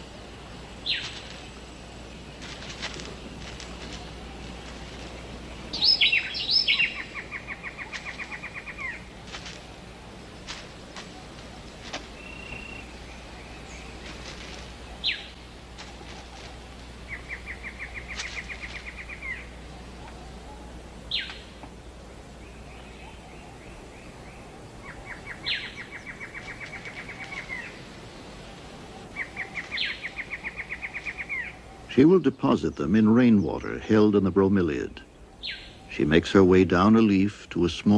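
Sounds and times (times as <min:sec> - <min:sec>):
steady background hiss: 0:00.0 - 0:37.9.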